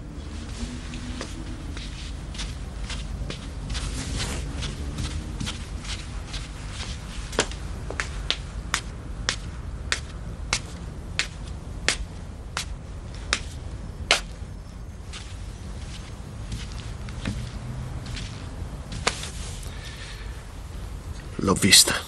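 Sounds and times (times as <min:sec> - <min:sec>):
footsteps on tiled stairs: 0:00.0 - 0:20.9.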